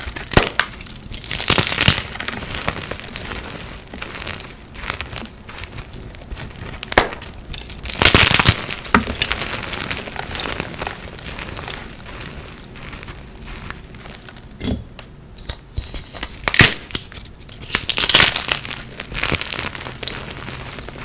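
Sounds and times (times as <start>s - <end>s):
chalk crunching and crackling: 0.0s - 14.6s, 15.4s - 21.0s.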